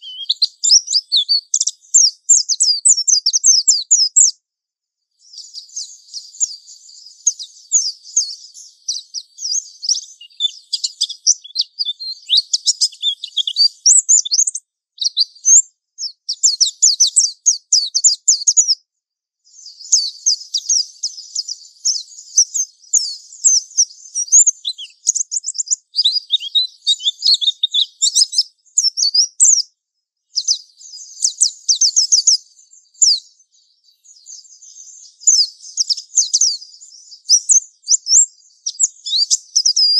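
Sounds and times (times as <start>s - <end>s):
bird twittering song: 0.0s - 4.5s, 5.1s - 39.9s.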